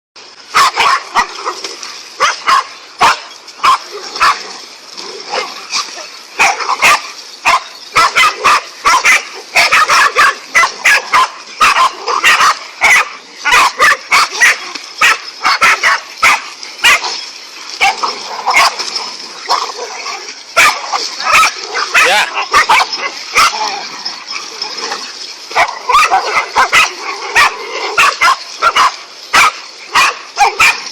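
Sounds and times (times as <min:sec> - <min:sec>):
dogs barking excitedly: 0:00.5 - 0:04.6, 0:05.2 - 0:30.9.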